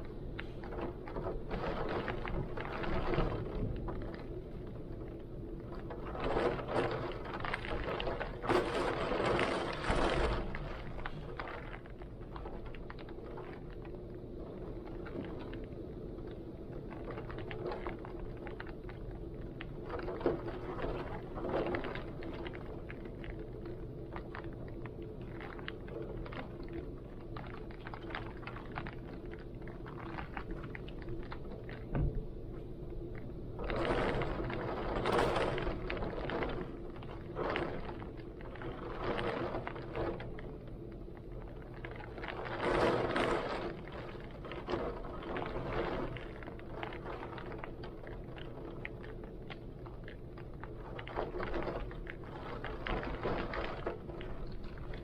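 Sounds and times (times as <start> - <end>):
raindrops ticking: 0.0 - 55.0.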